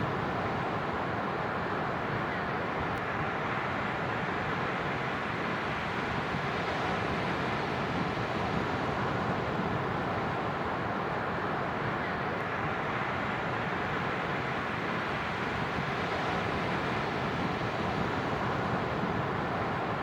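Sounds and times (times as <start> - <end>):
waves rushing on a beach: 0.0 - 20.0.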